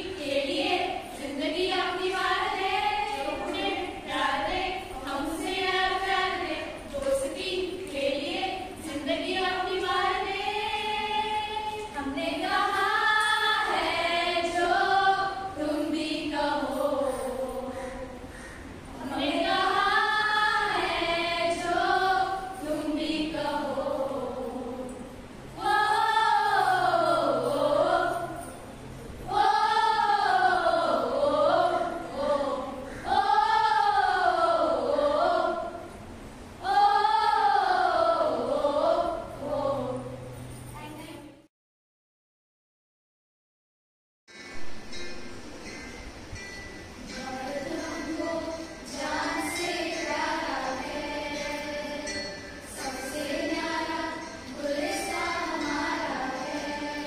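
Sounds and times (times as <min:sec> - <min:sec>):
women singing together: 0:00.0 - 0:40.5, 0:47.1 - 0:57.0.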